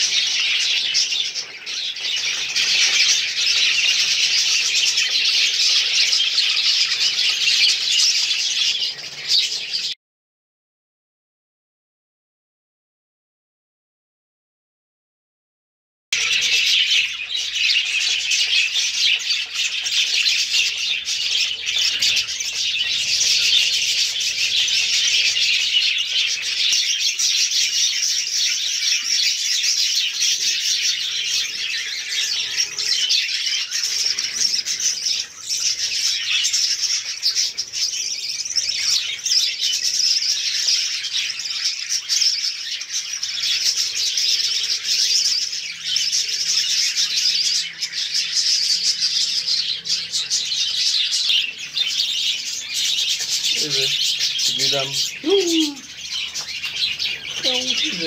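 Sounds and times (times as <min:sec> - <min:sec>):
flock of budgerigars chattering: 0:00.0 - 0:10.0, 0:16.2 - 0:58.0.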